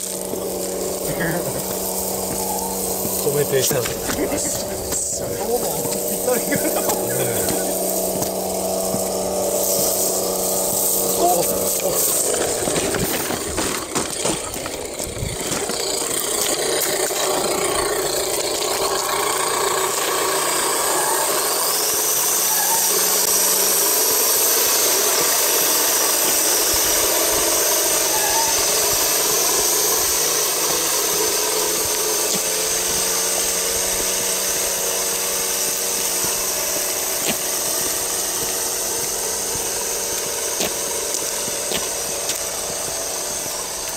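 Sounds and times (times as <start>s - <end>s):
electric motor and gearbox whining: 0.0s - 43.9s.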